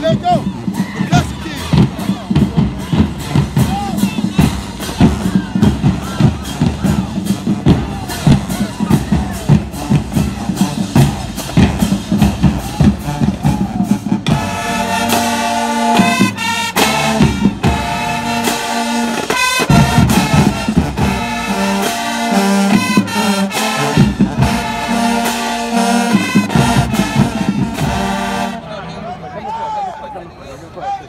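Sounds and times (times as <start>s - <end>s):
marching band drums cadence: 0.0s - 28.8s
brass section playing chords: 1.2s - 29.1s.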